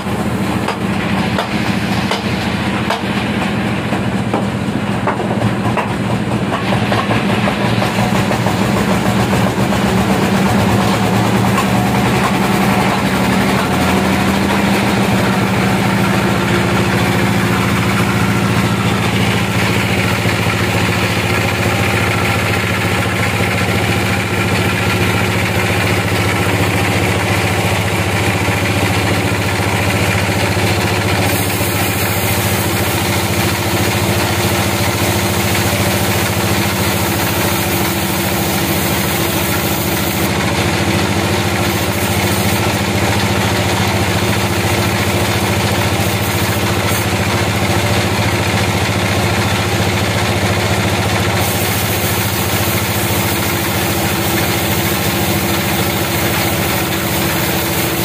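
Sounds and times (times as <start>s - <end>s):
saw blade cutting log: 0.0s - 3.2s, 6.5s - 58.0s
band sawmill humming: 0.0s - 58.0s.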